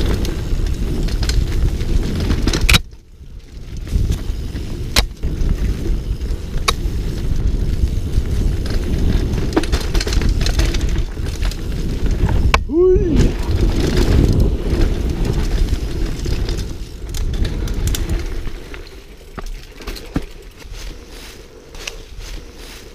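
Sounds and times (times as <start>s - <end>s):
bike tyre and frame rattle: 0.0s - 22.9s
wind buffeting microphone: 0.0s - 22.9s.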